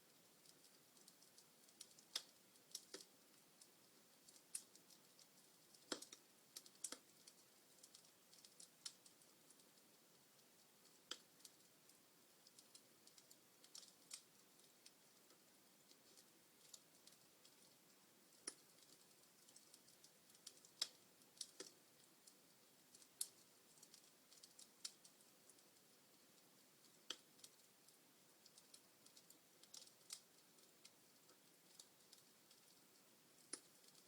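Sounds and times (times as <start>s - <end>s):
faint hiss of fire: 0.0s - 34.0s
wood fire crackling and popping: 0.0s - 34.0s.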